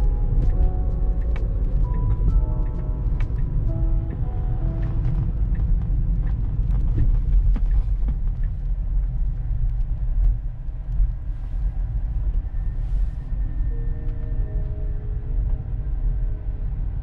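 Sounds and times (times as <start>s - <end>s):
road and tyre rumble in car: 0.0s - 17.0s.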